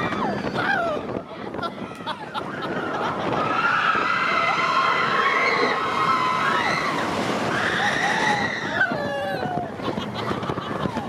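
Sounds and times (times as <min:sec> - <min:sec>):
riders screaming on roller coaster: 0:00.0 - 0:11.0.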